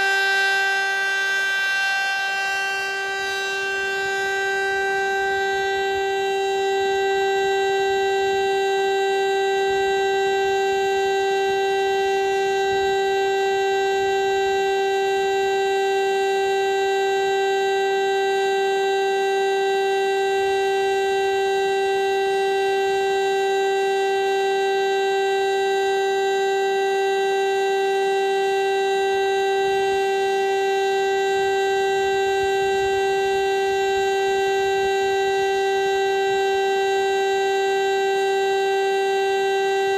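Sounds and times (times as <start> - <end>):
mechanical siren steady tone: 0.0 - 39.9.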